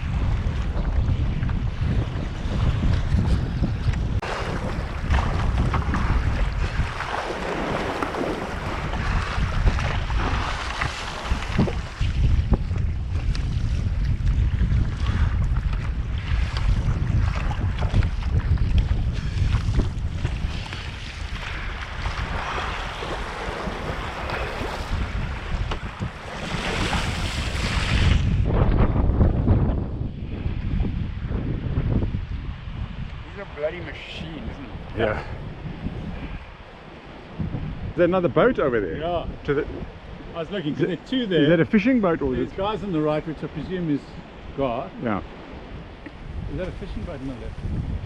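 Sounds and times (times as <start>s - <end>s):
waves and spray rushing: 0.0s - 48.0s
wind buffeting microphone: 0.0s - 48.0s.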